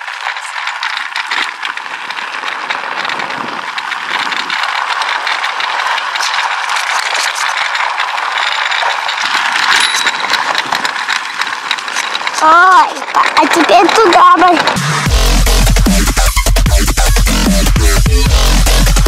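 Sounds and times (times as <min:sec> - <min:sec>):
cart frame rattling: 0:00.0 - 0:19.0
wheels crunching over gravel: 0:00.0 - 0:19.0.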